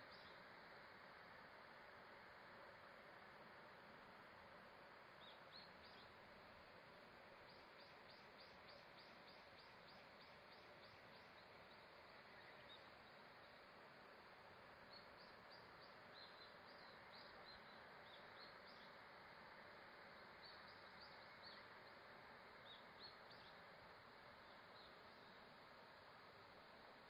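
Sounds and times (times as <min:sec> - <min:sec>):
faint hiss: 0:00.0 - 0:27.0.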